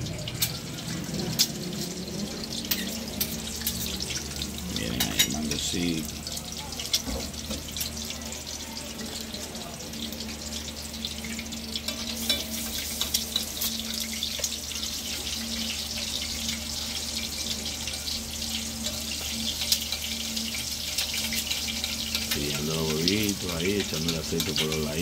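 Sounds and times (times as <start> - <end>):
egg sizzling in hot oil: 0.0 - 25.0
spoon basting oil: 0.2 - 9.4, 10.1 - 25.0.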